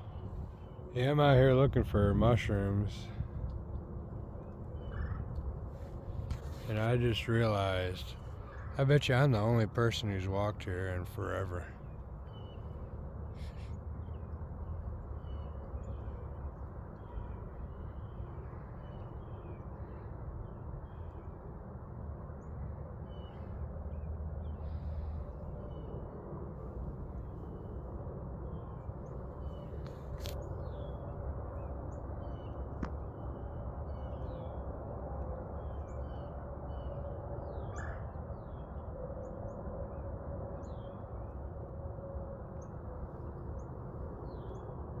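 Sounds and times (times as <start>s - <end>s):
steady low rumble: 0.0s - 37.6s, 38.2s - 45.0s
faint birds chirping: 4.3s - 21.5s, 22.3s - 44.8s.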